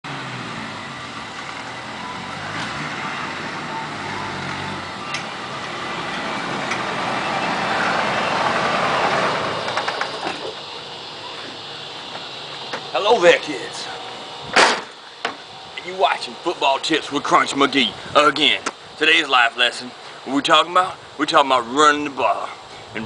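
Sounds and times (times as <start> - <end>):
motor vehicle driving up: 0.0 - 18.9.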